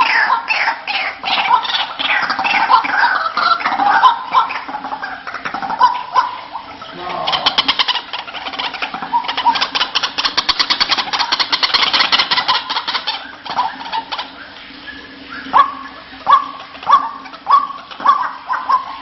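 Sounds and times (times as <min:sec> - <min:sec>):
waterhen chattering calls: 0:00.0 - 0:19.0.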